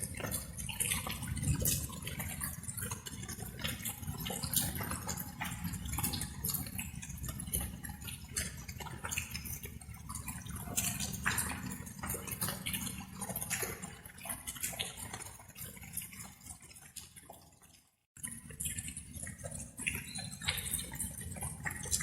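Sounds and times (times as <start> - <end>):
water drops falling: 0.0 - 17.4, 18.2 - 22.0.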